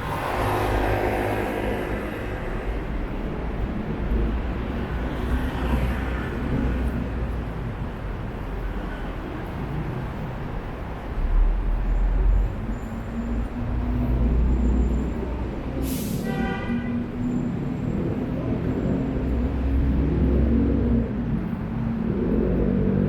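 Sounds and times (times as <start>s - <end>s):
traffic rumble and tyre noise: 0.0s - 23.0s.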